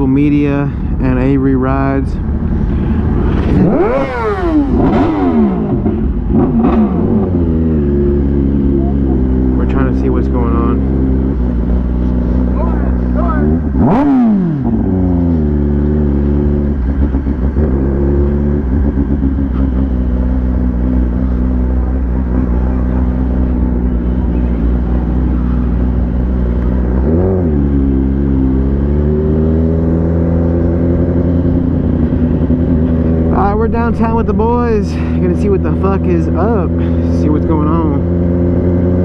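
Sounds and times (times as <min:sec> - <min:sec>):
motorcycle engine cruising: 0:00.0 - 0:39.0.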